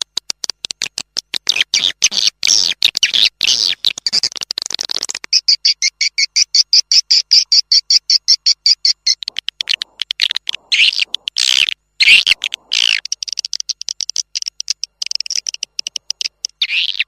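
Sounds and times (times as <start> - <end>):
buzzing twitters: 1.5 - 17.0.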